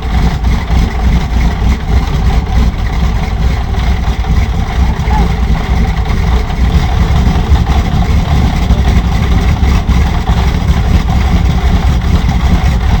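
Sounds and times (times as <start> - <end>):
recorded radial engine idling: 0.0 - 13.0.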